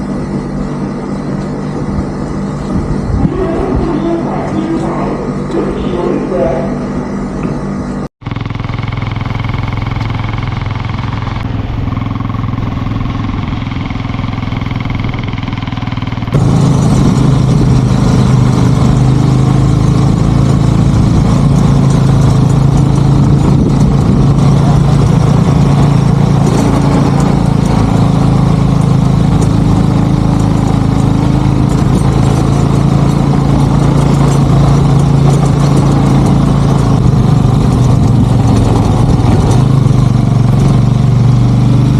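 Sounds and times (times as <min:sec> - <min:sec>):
motorcycle engine running: 0:00.0 - 0:41.9
road and wind noise: 0:00.0 - 0:41.9.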